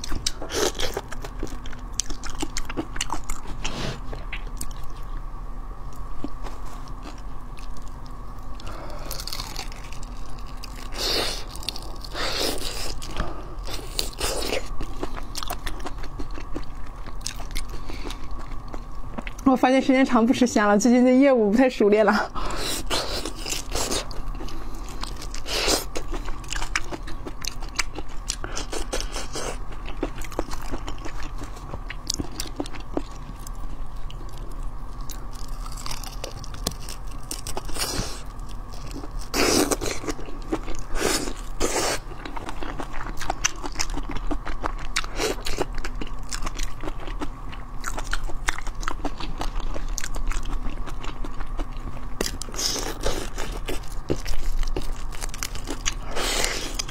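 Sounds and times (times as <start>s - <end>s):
chewing crunchy shrimp: 0.0s - 5.3s, 5.9s - 19.5s, 22.4s - 56.9s.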